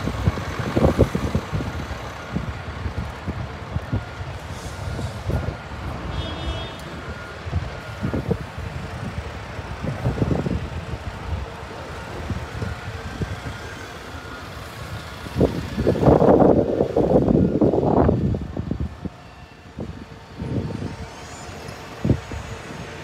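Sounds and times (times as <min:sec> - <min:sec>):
bus and traffic engine rumble: 0:00.0 - 0:23.0.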